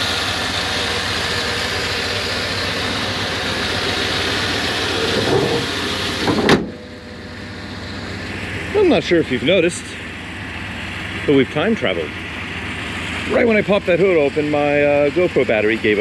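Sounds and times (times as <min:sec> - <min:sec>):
pickup truck engine idling: 0:00.0 - 0:16.0.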